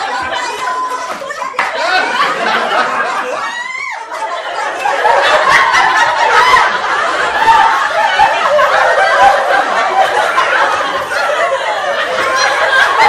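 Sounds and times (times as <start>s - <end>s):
people laughing and shrieking: 0.0s - 13.0s.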